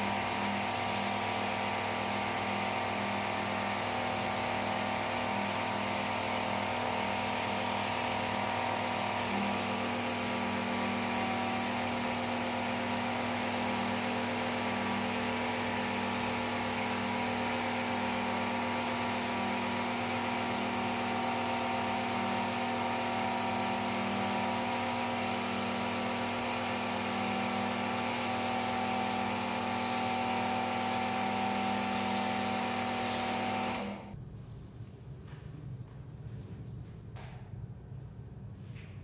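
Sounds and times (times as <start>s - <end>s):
rug cleaning machine running: 0.0s - 34.2s.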